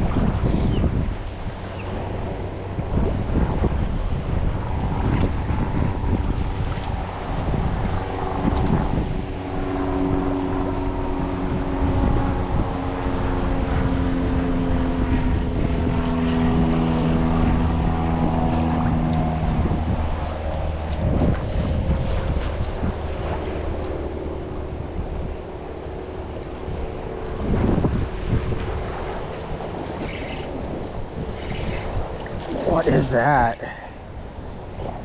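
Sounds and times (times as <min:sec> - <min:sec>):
motorboat engine running: 0:00.0 - 0:35.0
wind buffeting microphone: 0:00.0 - 0:35.0.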